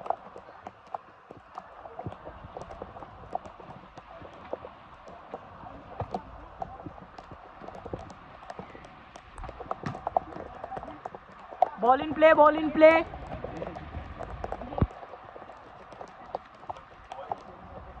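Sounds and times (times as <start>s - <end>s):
players running and kicking football: 0.0s - 18.0s.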